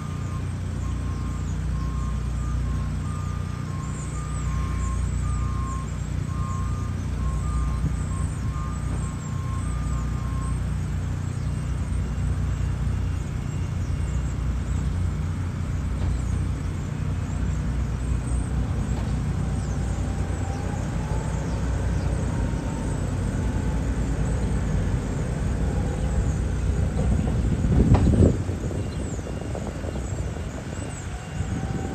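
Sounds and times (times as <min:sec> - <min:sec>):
diesel engine drone: 0:00.0 - 0:31.9.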